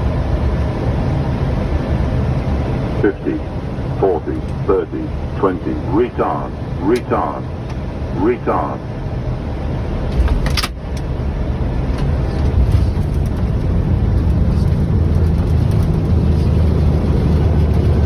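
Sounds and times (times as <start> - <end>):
low rumble of aircraft rolling out: 0.0 - 18.0.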